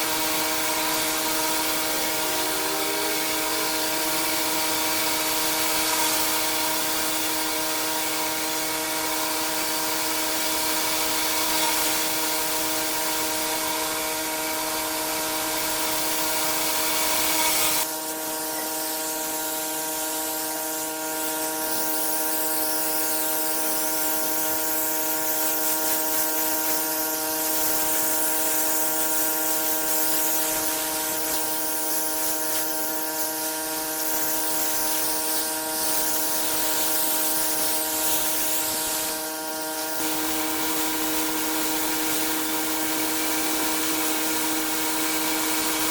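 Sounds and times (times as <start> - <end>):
pressure washer hum: 0.0 - 17.9, 24.9 - 45.9
high-pressure water spray hissing: 0.0 - 45.9.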